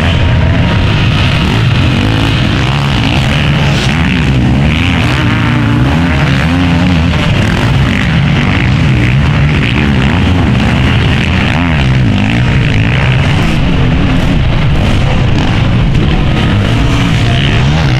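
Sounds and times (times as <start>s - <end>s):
motocross engines revving: 0.0s - 17.9s.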